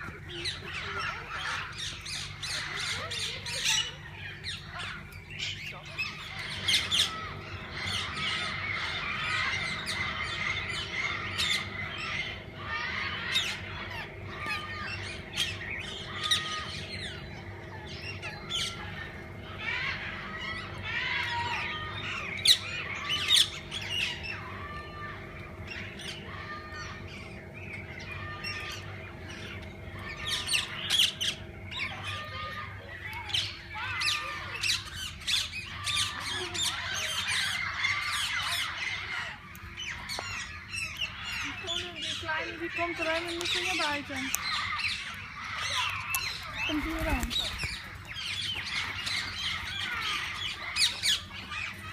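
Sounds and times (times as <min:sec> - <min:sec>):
parakeets chattering and squawking: 0:00.0 - 0:51.9
steady low hum: 0:00.0 - 0:51.9.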